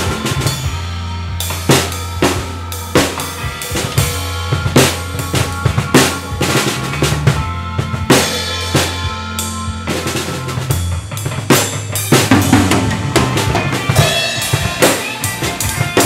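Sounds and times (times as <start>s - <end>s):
drum kit played with sticks: 0.0s - 16.0s
recorded rock song: 0.0s - 16.0s.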